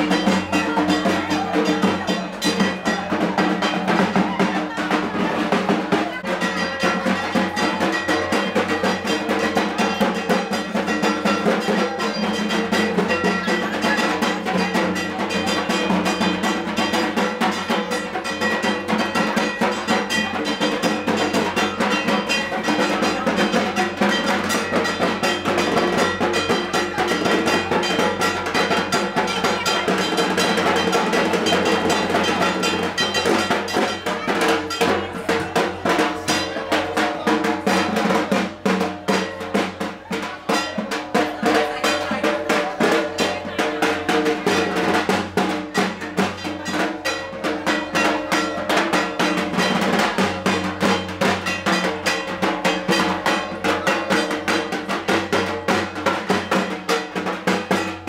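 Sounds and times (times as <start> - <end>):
fast drumming: 0.0 - 58.0.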